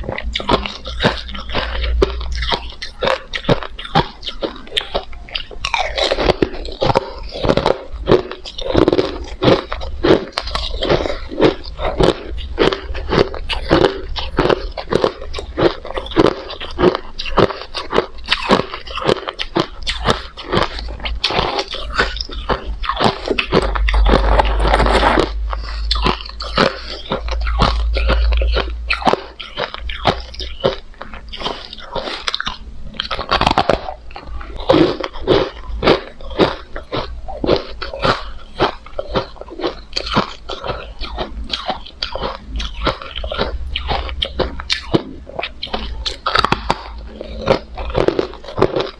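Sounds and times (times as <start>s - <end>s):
crushed ice being chewed: 0.0s - 48.9s.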